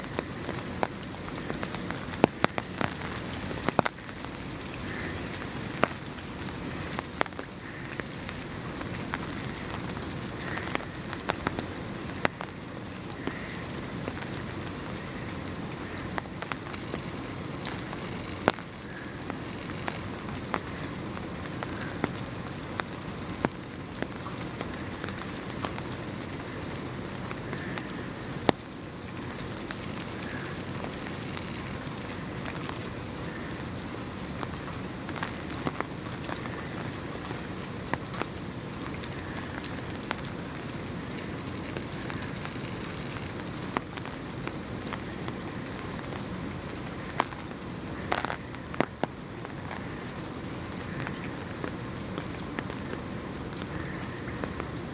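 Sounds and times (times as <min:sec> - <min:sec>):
heavy drops ticking: 0:00.0 - 0:54.9
steady rain falling: 0:00.0 - 0:54.9.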